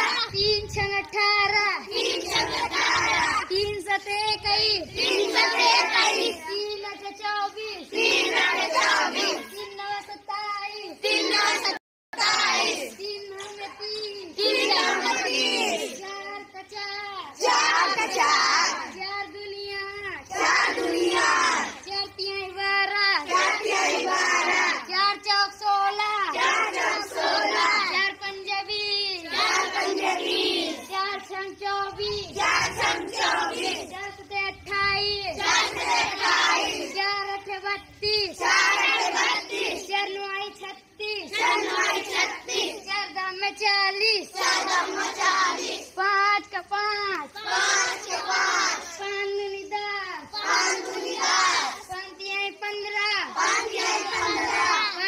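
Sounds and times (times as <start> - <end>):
children chanting in unison: 0.0 - 55.0.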